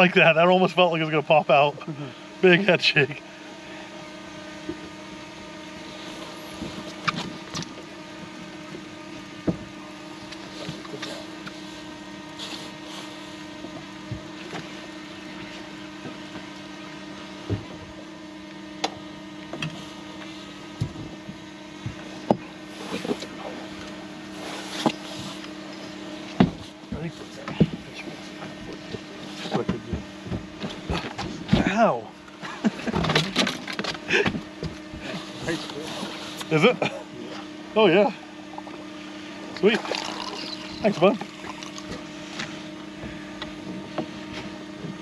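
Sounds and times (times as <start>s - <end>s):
boat motor humming: 0.0s - 45.0s.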